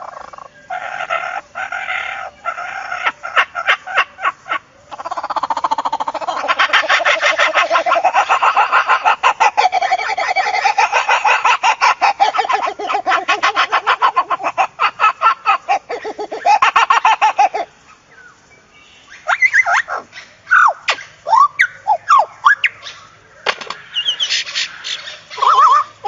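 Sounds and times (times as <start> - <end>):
cackling clucking bird calls: 0.0 - 26.0.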